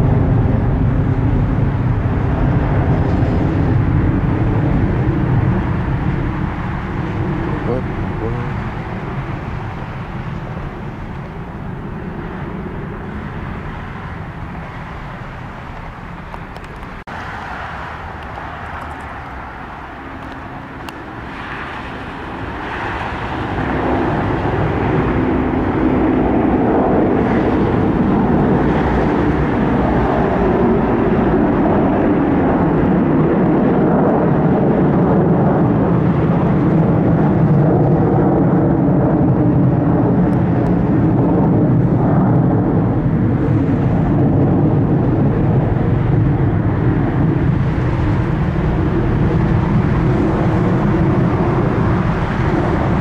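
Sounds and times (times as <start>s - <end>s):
airplane engine rumble: 0.0s - 53.0s.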